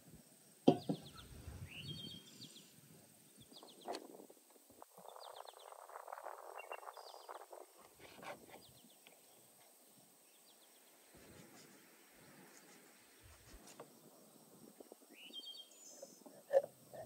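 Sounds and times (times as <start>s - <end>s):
small birds chirping: 0.7s - 17.0s.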